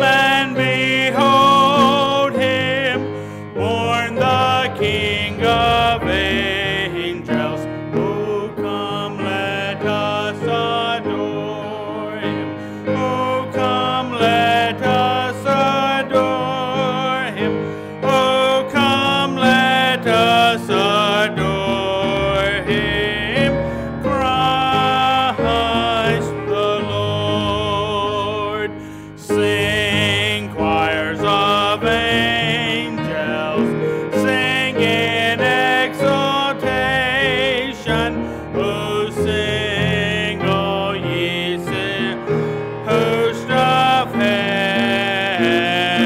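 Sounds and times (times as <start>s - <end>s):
church singing: 0.0s - 46.0s
instrumental accompaniment: 0.0s - 46.0s.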